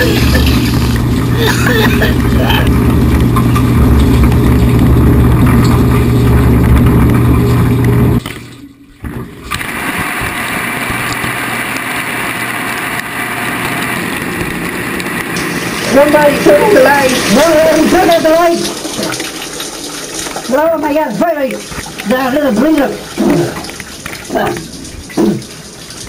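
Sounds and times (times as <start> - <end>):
dishwasher pump motor humming: 0.0 - 8.3, 9.6 - 26.0
water rushing: 0.0 - 8.7, 9.3 - 26.0.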